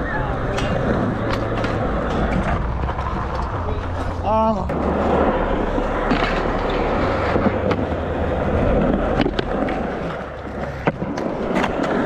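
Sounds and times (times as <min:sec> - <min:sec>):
skateboard wheels rolling on concrete: 0:00.0 - 0:12.0
skateboard clacking on ground: 0:00.1 - 0:12.0.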